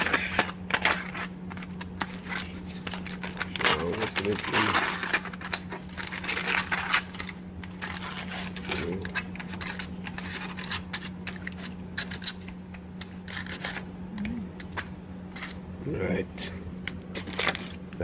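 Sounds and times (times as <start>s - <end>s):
aluminium foil crinkling: 0.0s - 18.0s.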